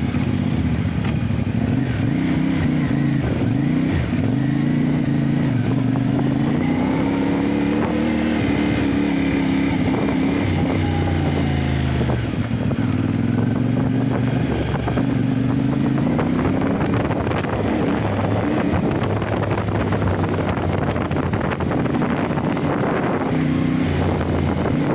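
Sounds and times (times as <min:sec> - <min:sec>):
motorcycle engine revving: 0:00.0 - 0:24.9
wind noise on microphone: 0:00.0 - 0:24.9.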